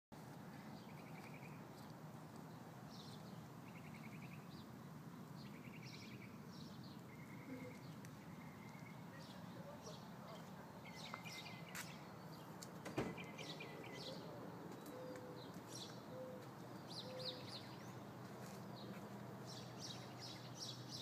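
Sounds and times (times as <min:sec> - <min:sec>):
songbirds chirping and singing: 0:00.6 - 0:21.0.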